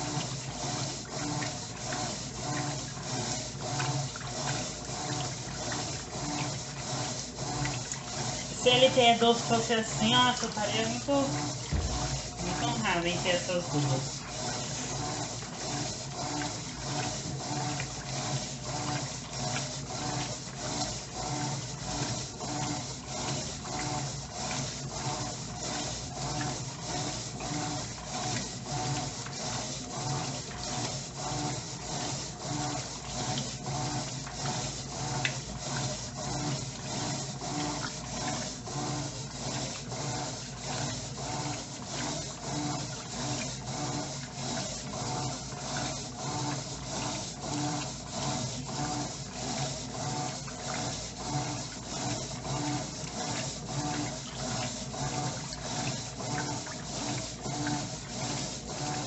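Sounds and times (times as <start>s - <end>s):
motor hum: 0.0s - 59.0s
washing machine agitator swishing: 0.0s - 59.0s.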